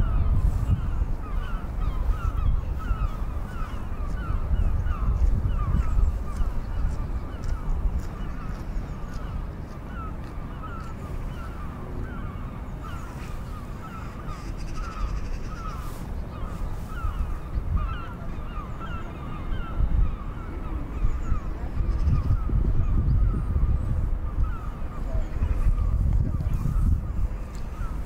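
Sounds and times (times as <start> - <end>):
flock of birds calling: 0.0 - 28.0.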